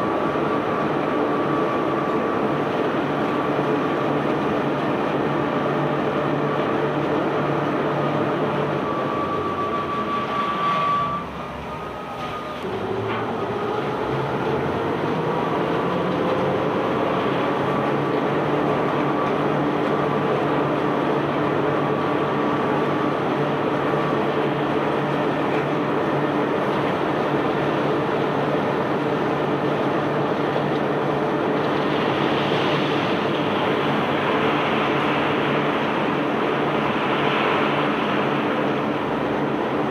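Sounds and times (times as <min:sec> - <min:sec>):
rushing noise: 0:03.4 - 0:39.9.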